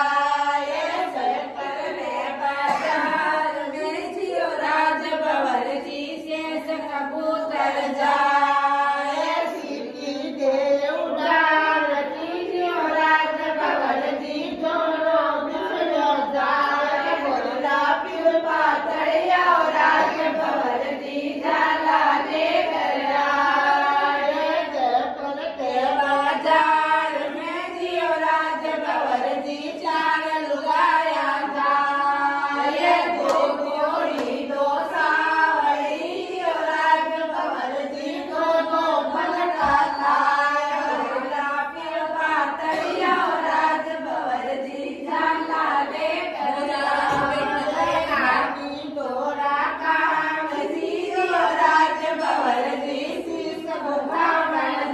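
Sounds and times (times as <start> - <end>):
women singing in chorus: 0.0 - 54.9.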